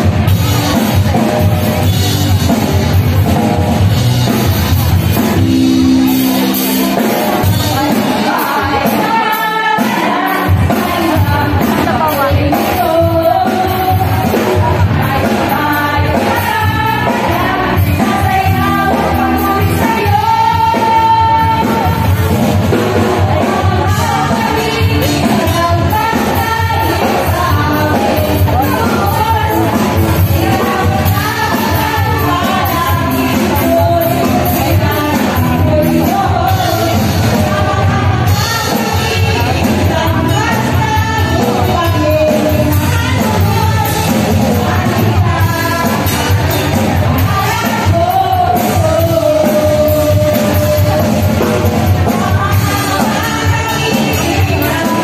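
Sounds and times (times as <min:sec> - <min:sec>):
live band playing: 0:00.0 - 0:55.0
women singing worship song: 0:06.9 - 0:55.0.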